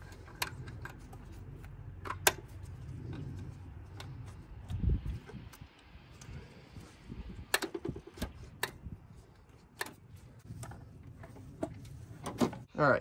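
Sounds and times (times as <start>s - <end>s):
engine parts clicking: 0.0s - 12.7s.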